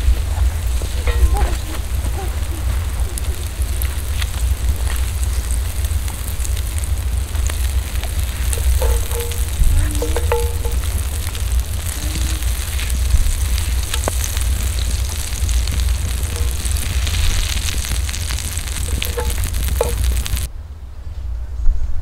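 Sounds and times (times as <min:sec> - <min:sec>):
food sizzling in oil: 0:00.0 - 0:20.5
spatula scraping and tapping pan: 0:00.6 - 0:02.3, 0:03.5 - 0:20.5.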